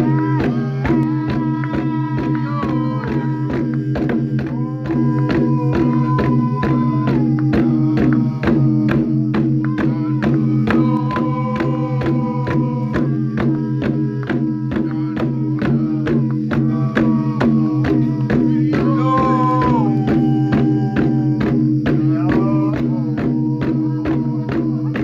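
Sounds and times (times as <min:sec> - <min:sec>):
group chanting: 0:00.0 - 0:25.0
hourglass drums beaten: 0:00.0 - 0:25.0.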